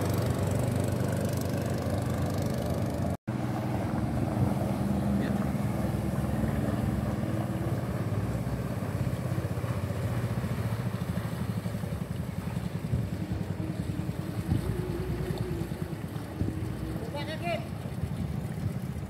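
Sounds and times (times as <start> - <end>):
longtail boat engine running: 0.0 - 19.0.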